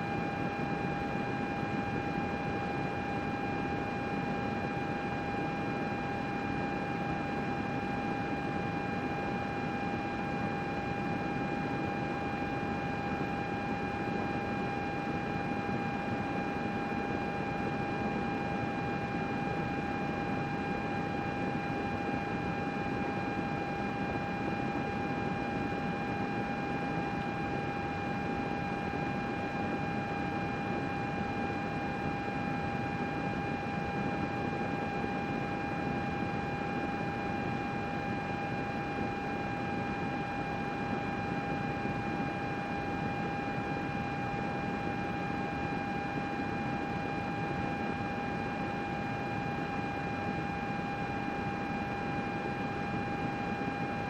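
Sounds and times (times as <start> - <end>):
constant high whine: 0.0 - 54.0.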